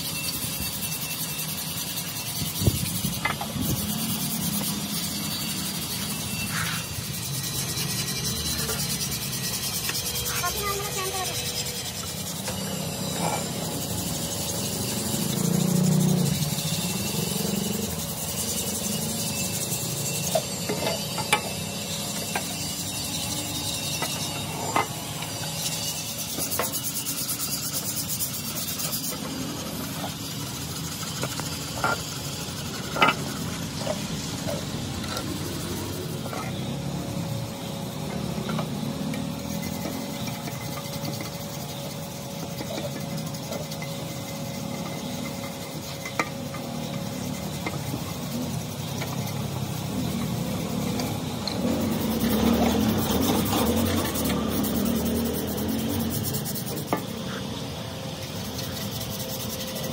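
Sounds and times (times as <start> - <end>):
scrubbing rusted metal: 0.0 - 59.9.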